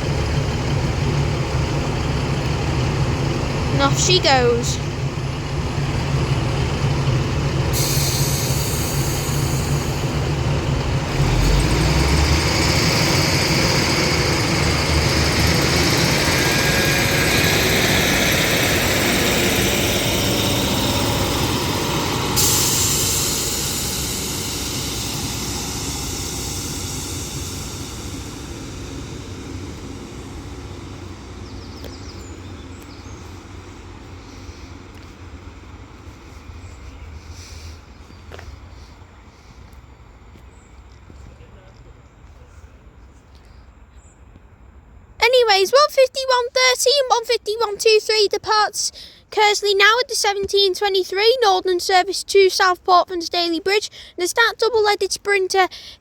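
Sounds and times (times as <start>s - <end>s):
diesel train pulling away: 0.0s - 56.0s.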